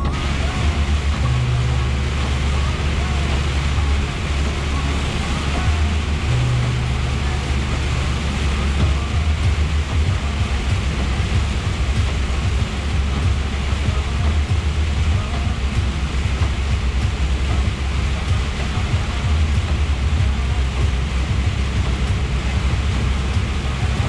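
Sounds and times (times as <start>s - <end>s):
diesel engine drone: 0.0s - 24.0s
rain: 0.0s - 24.0s
tyres hissing on wet road: 0.0s - 24.0s.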